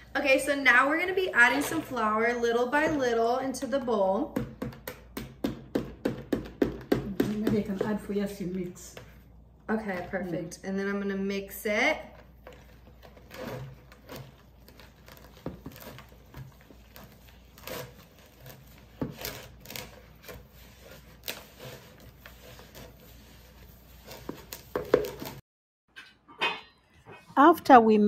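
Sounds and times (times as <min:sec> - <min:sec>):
hands mixing dough: 0:00.0 - 0:25.4.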